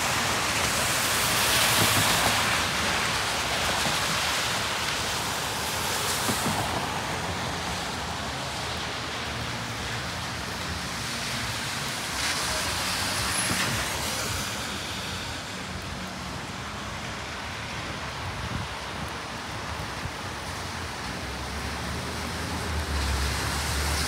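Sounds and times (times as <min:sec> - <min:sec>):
low engine rumble of traffic: 0:00.0 - 0:24.0
tyres hissing on wet road: 0:00.0 - 0:24.0.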